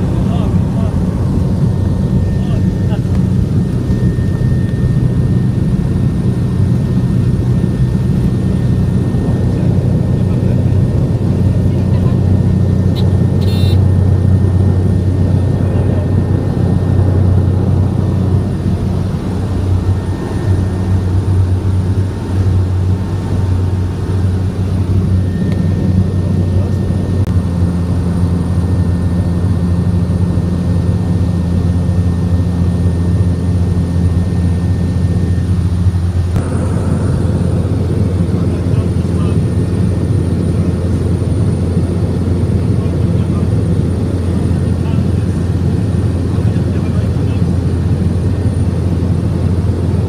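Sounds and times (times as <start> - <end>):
propeller engine droning: 0.0 - 50.0.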